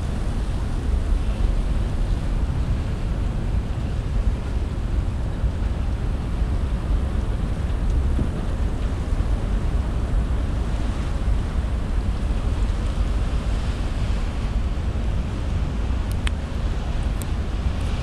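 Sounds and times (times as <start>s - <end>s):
ferry engine rumble: 0.0s - 18.0s
wind buffeting microphone: 0.0s - 18.0s.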